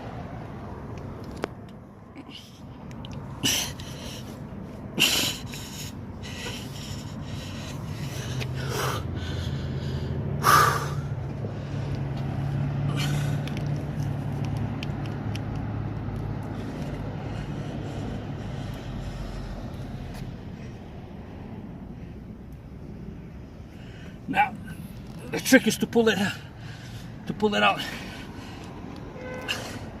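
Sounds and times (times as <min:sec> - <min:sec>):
man breathing heavily and snorting: 0:02.0 - 0:14.4, 0:16.0 - 0:25.2, 0:26.0 - 0:30.0.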